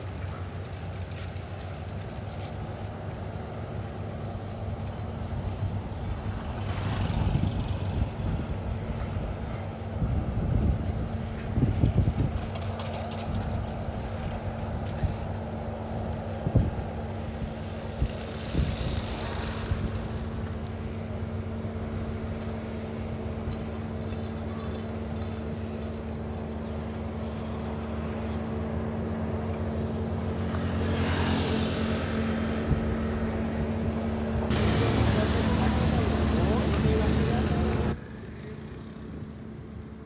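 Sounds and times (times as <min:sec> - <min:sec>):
engine humming: 0:00.0 - 0:40.0
vehicles passing: 0:00.0 - 0:40.0.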